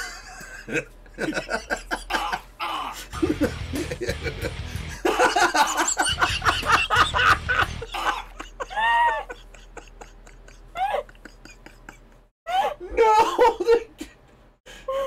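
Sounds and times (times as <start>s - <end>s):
people laughing: 0.0s - 12.3s.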